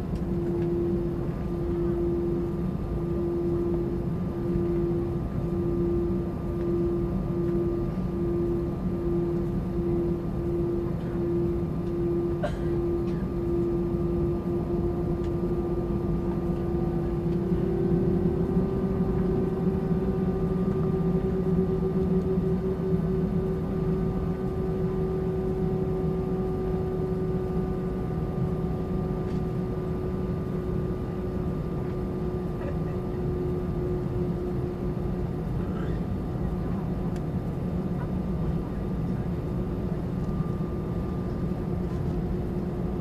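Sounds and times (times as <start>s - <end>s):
jet engines running: 0.0s - 43.0s.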